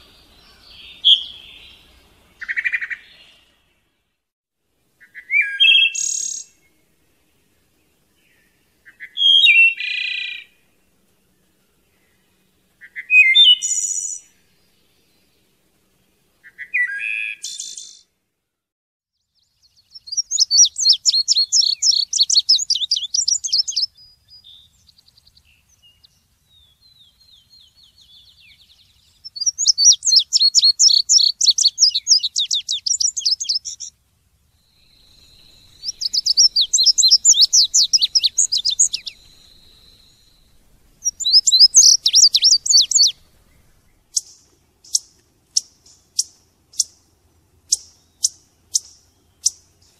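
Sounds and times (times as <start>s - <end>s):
soft bird twittering: 0.0s - 4.0s, 5.0s - 18.1s, 19.2s - 49.9s
songbird singing: 0.0s - 49.9s.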